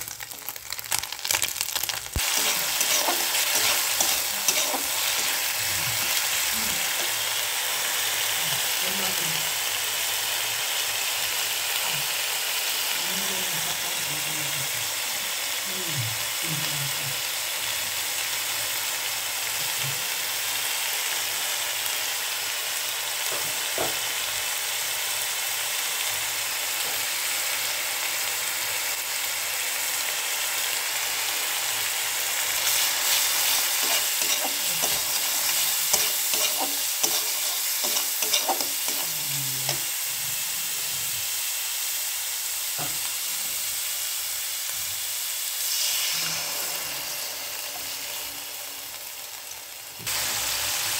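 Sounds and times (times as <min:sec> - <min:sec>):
food sizzling in oil: 0:00.0 - 0:50.9.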